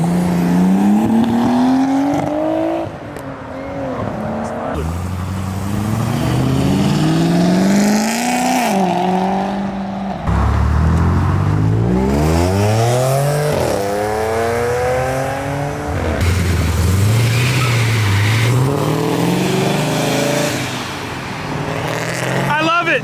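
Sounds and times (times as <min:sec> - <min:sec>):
car accelerating hard: 0:00.0 - 0:03.0, 0:03.8 - 0:22.6.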